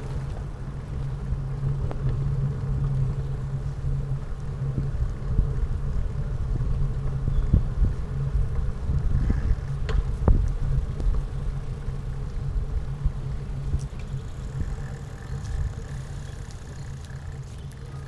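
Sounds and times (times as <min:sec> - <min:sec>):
road riding rumble: 0:00.0 - 0:18.0.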